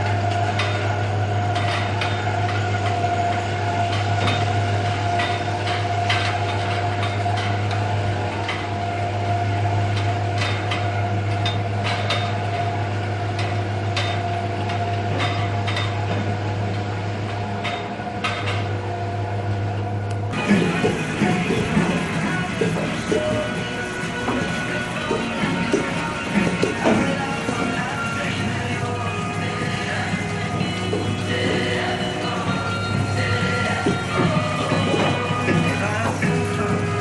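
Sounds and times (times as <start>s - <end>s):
milking machine hum and whine: 0.0s - 37.0s.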